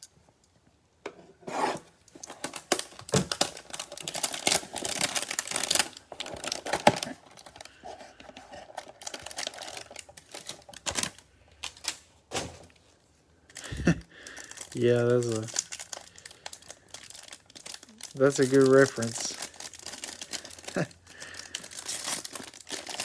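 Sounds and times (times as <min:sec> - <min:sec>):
crackling plastic wrap: 0:02.2 - 0:12.9, 0:13.5 - 0:23.0.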